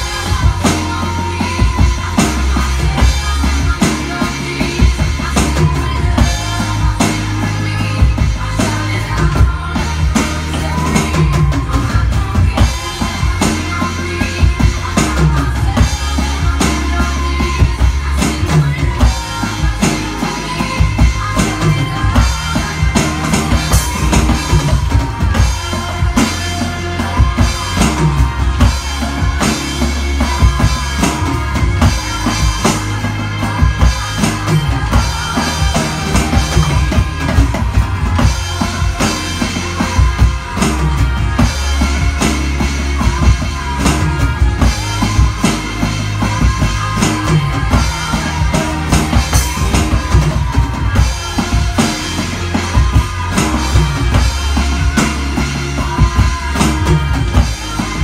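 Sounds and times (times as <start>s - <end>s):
electronic drum kit: 0.0s - 58.0s
recorded pop song: 0.0s - 58.0s.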